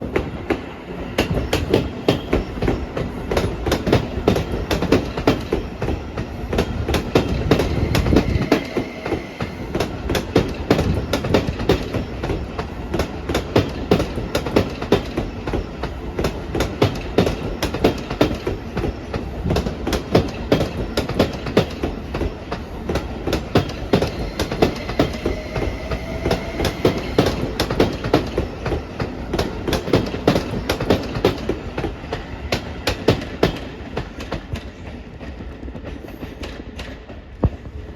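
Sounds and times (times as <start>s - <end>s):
train wheels clattering over rail joints: 0.1s - 37.9s.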